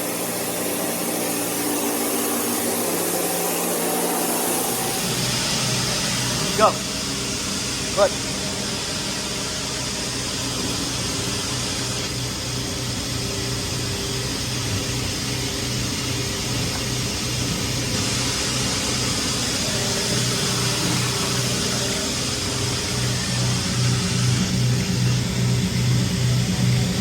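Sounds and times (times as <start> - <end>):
duct cleaning machine rushing: 0.0 - 27.0
pulsing low hum: 0.0 - 27.0.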